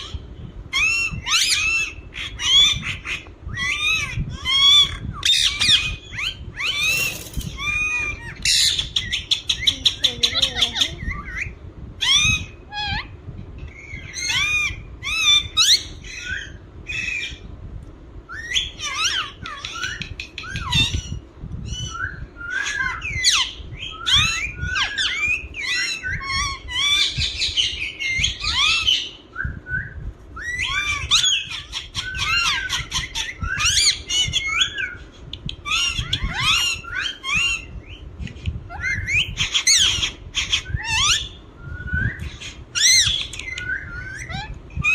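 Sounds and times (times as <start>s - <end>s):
parakeet chirping and squawking: 0.0s - 13.1s, 13.7s - 17.4s, 18.4s - 21.2s, 22.5s - 29.2s, 30.4s - 41.5s, 42.2s - 44.9s.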